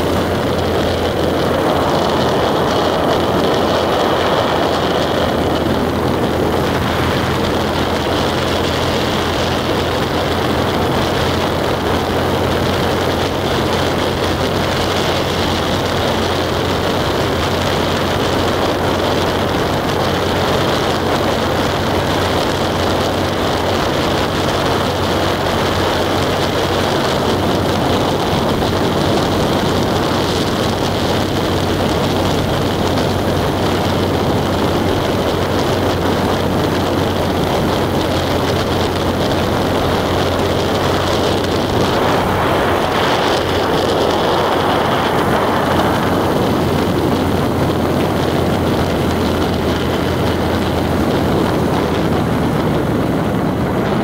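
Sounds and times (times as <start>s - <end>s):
road and wind noise: 0.0s - 54.0s
vehicle engine hum: 0.0s - 54.0s.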